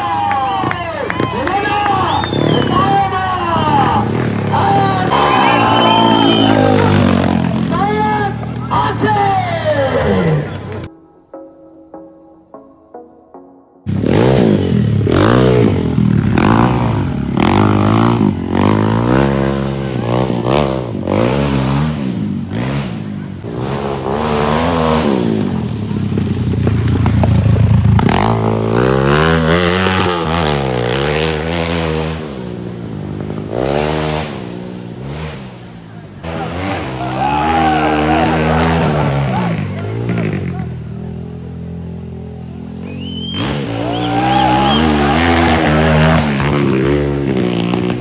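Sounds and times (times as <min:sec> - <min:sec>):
dirt bike engine revving: 0:00.4 - 0:10.9, 0:13.9 - 0:48.0.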